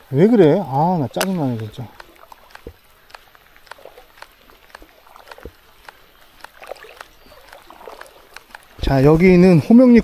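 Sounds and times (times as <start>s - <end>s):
faint rain hiss: 0.0s - 10.0s
raindrops ticking: 0.0s - 10.0s.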